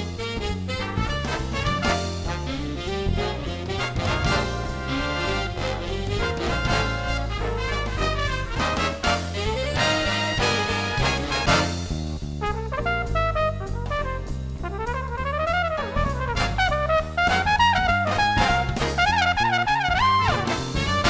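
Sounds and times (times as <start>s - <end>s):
bass and drum beat: 0.0s - 21.0s
brass melody: 0.0s - 21.0s
upbeat jazzy music: 0.0s - 21.0s.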